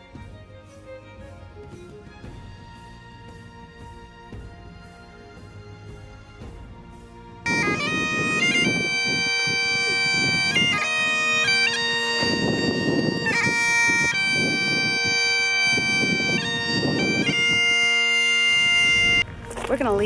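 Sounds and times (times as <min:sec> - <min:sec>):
bagpipes playing a tune: 0:00.0 - 0:19.9.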